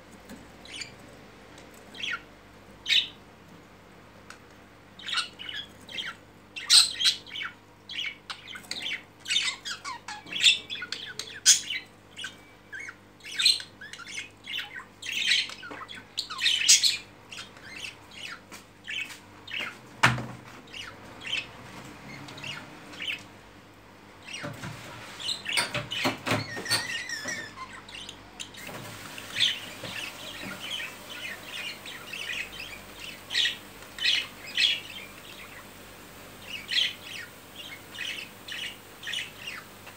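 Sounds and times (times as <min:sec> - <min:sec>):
budgerigars chirping and squawking: 0:00.3 - 0:03.2, 0:04.9 - 0:23.4, 0:24.2 - 0:39.9.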